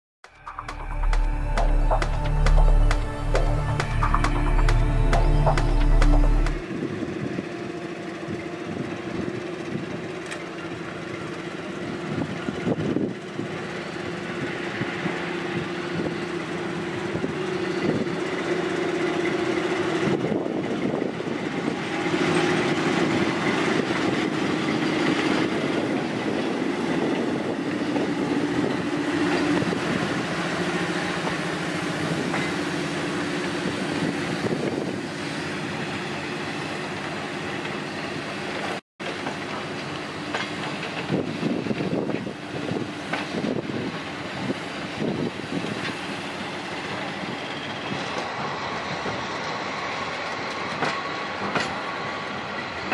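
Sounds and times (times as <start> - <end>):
diesel locomotive engine droning: 0.2 - 52.9.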